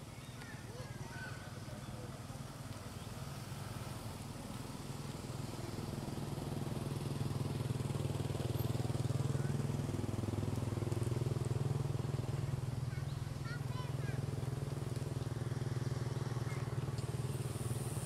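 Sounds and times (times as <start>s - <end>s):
engine humming: 1.6s - 18.0s.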